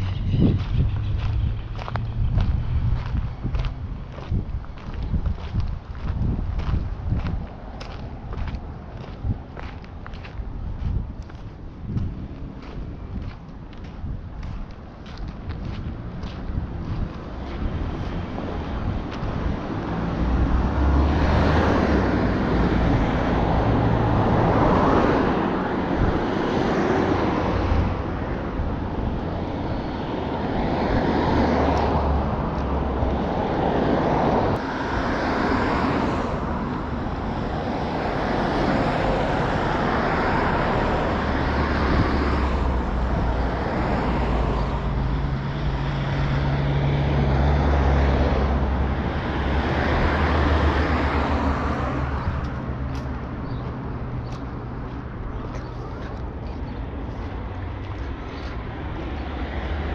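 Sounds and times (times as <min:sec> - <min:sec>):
passing road vehicles: 0:00.0 - 0:59.9
wind rumbling on microphone: 0:00.0 - 0:59.9.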